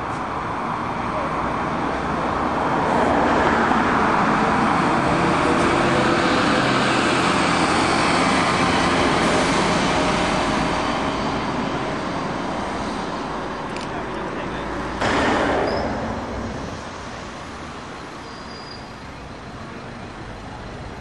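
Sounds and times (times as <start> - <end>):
heavy vehicle engine and road noise: 0.0 - 21.0.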